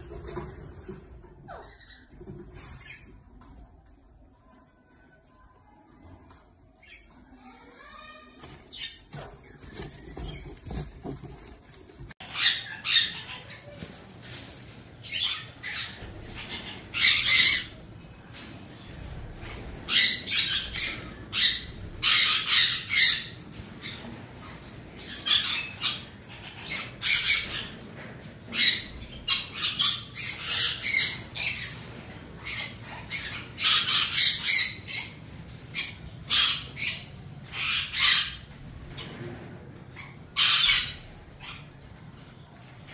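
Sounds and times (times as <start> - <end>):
parrot chicks squawking: 0.1 - 3.2, 6.8 - 39.2, 39.8 - 42.2.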